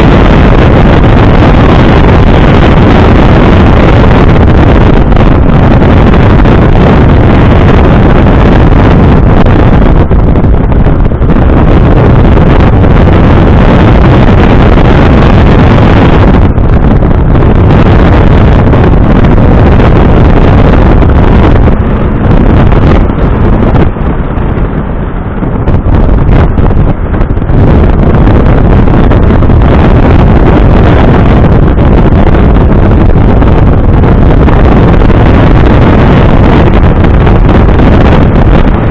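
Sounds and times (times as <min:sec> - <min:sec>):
road and engine noise: 0:00.0 - 0:38.9
wind buffeting microphone: 0:00.0 - 0:38.9.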